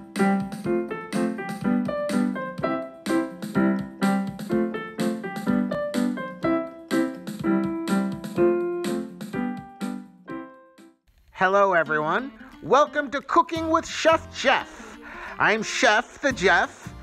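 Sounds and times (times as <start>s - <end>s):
keyboard theme music: 0.0s - 11.0s, 11.8s - 17.0s.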